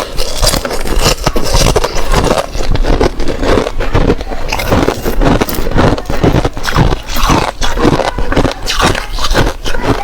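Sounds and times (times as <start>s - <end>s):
ice being chewed crunching: 0.0s - 10.0s.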